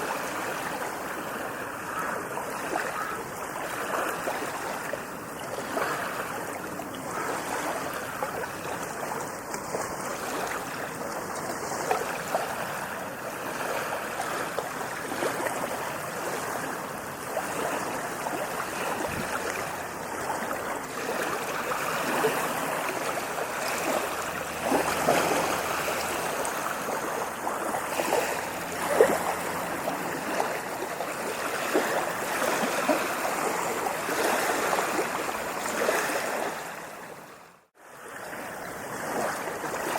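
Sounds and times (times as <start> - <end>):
sea waves washing onto beach: 0.0 - 39.9.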